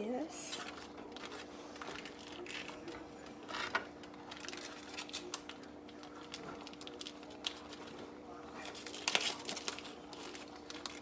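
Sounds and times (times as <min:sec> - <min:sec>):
plastic wrapping crinkling: 0:00.5 - 0:11.0.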